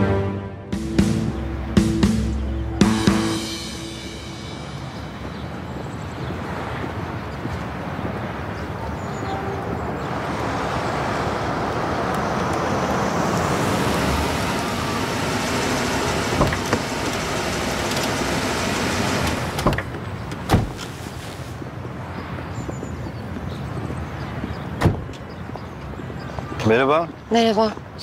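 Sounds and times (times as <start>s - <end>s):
road vehicle noise: 0.0s - 28.0s.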